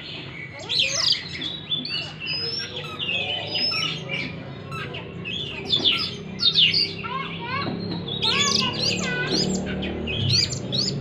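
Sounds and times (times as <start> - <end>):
bird singing whistles and trills: 0.5 - 7.1, 7.8 - 11.0.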